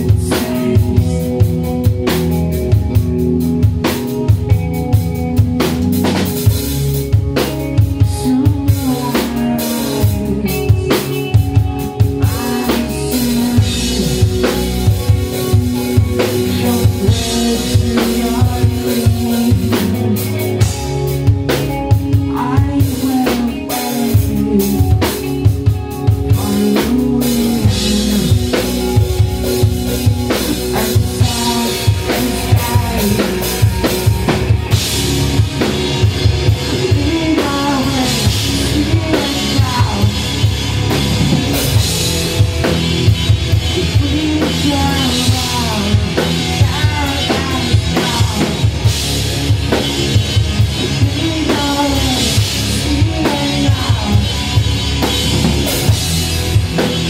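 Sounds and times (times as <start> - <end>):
drum kit beat: 0.0 - 57.0
rock band playing: 0.0 - 57.0.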